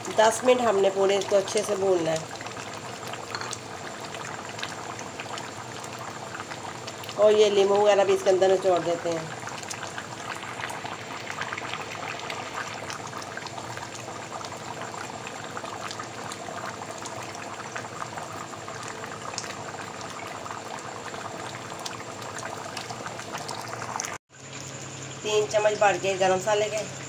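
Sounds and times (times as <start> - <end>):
curry bubbling and crackling in pot: 0.0 - 25.3.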